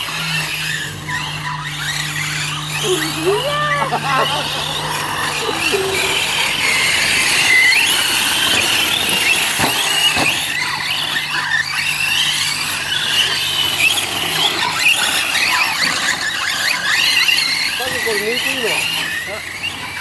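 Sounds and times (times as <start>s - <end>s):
rc trucks motor whine: 0.0s - 20.0s.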